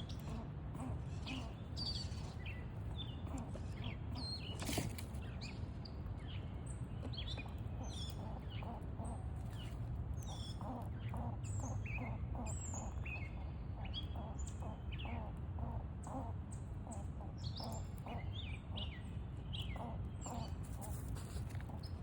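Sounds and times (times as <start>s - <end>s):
low background rumble: 0.0s - 22.0s
songbirds chirping: 0.0s - 22.0s.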